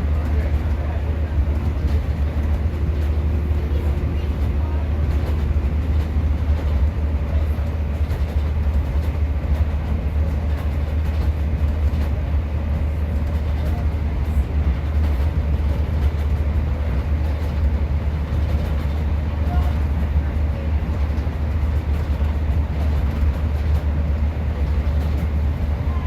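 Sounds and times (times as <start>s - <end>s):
diesel train engine rumble: 0.0s - 26.0s
train wheels on rails: 0.0s - 26.0s.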